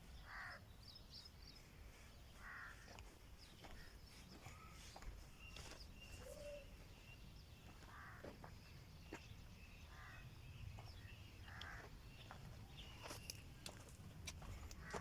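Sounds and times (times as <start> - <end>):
harsh bird calls: 0.0 - 13.4.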